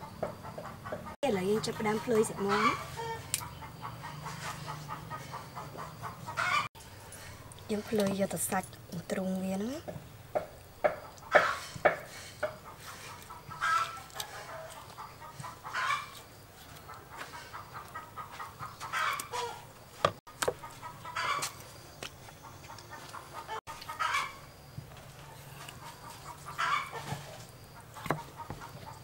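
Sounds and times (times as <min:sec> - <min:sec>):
chickens clucking: 0:00.0 - 0:08.1, 0:10.4 - 0:29.0.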